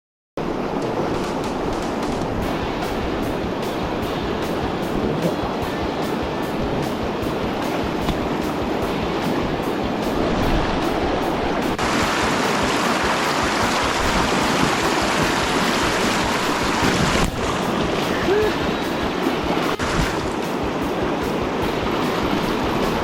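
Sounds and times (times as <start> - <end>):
river current rushing: 0.4 - 23.0.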